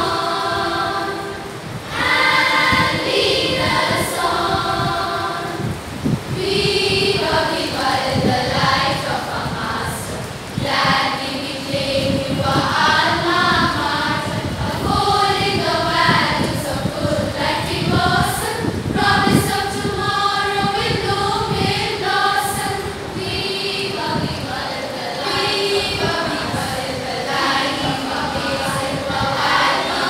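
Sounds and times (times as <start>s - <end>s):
girls' choir singing: 0.0s - 30.0s.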